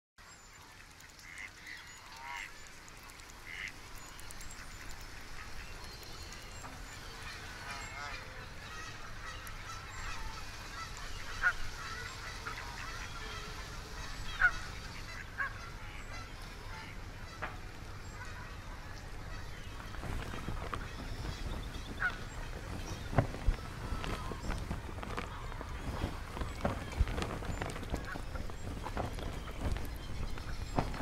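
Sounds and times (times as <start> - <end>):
steady outdoor ambience: 0.2 - 31.0
birds calling: 0.4 - 31.0.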